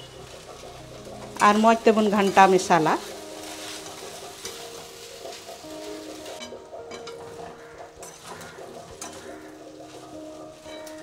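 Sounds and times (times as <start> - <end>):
faint sizzling: 0.0 - 11.0
soft background music: 0.0 - 11.0.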